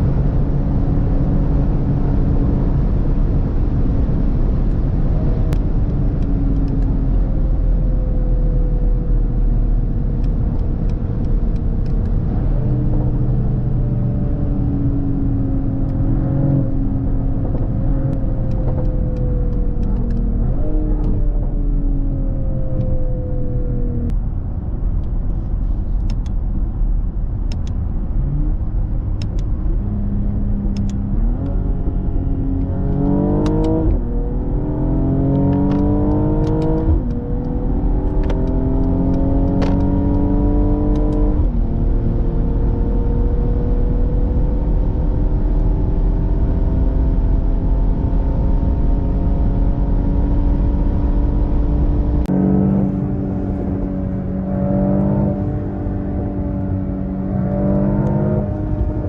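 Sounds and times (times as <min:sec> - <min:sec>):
car engine accelerating: 0:00.0 - 0:59.0
road rumble: 0:00.0 - 0:59.0.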